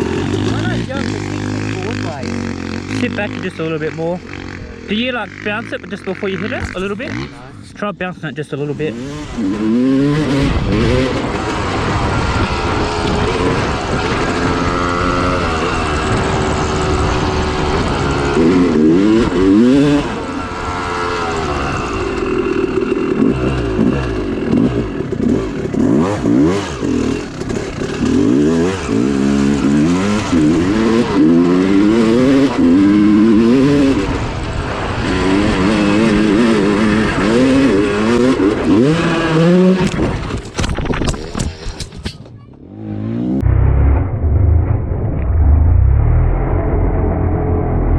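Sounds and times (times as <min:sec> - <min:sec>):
dirt bike engine revving: 0:00.0 - 0:40.6, 0:42.6 - 0:44.6.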